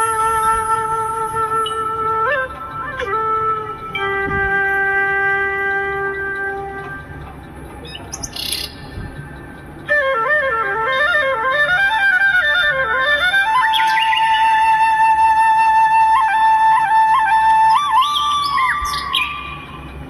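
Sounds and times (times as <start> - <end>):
flute melody: 0.0 - 20.0.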